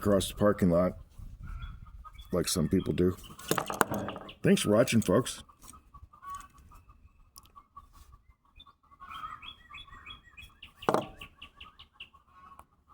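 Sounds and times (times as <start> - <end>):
small birds chirping: 0.4 - 12.6.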